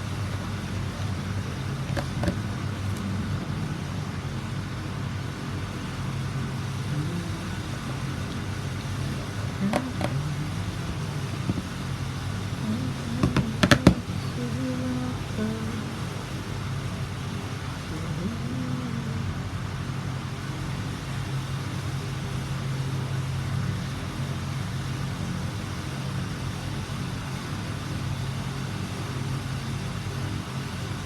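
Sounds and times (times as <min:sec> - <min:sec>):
steady low rumble: 0:00.0 - 0:25.7.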